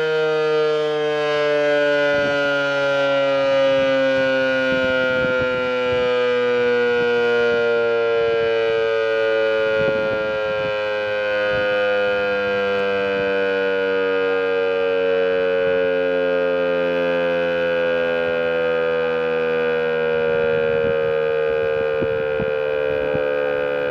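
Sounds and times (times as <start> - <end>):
mechanical siren falling in pitch: 0.0 - 23.9.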